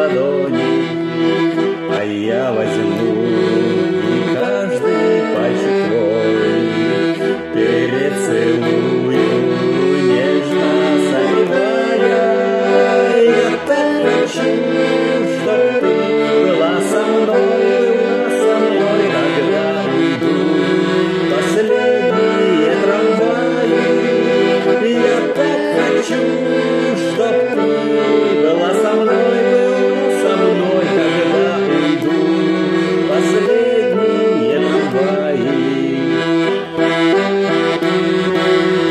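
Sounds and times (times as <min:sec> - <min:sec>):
button accordion melody: 0:00.0 - 0:38.9.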